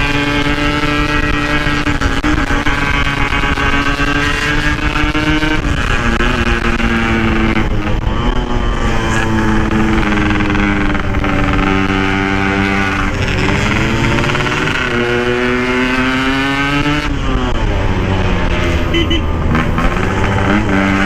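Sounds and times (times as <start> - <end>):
two-stroke motorcycle engine running: 0.0 - 21.0.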